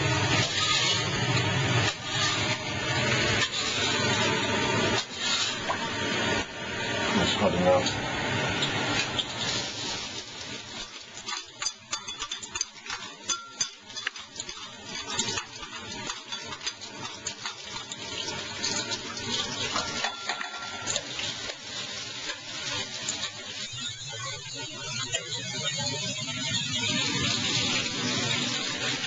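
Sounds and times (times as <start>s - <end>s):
garlic sizzling in oil: 0.0s - 29.0s.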